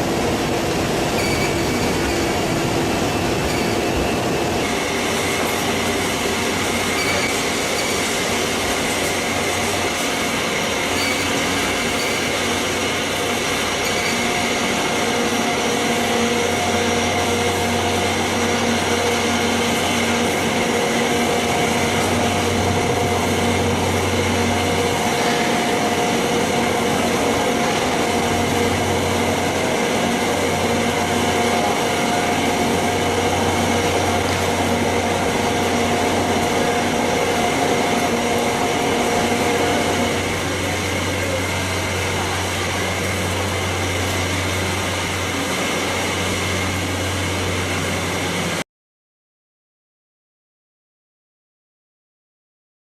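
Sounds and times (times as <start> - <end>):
machinery running: 0.0 - 48.6.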